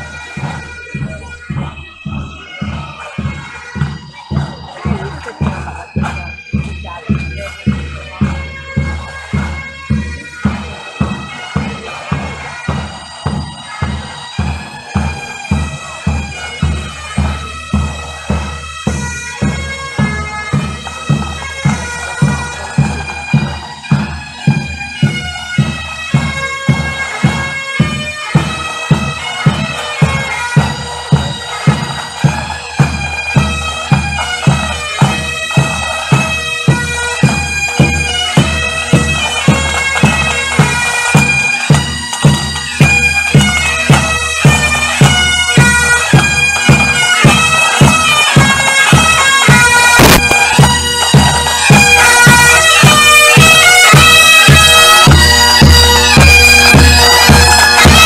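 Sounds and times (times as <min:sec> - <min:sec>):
bagpipes playing a march: 0:00.0 - 0:58.0
marching drumbeat: 0:00.0 - 0:58.0.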